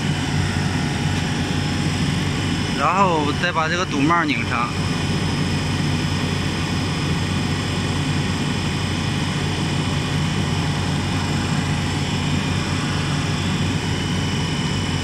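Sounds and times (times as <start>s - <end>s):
refrigeration unit droning: 0.0s - 15.0s.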